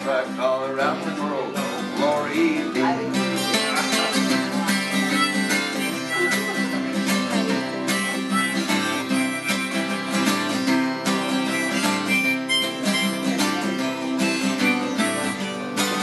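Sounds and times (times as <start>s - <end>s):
acoustic guitar strumming: 0.0s - 16.0s
harmonica melody: 0.0s - 16.0s.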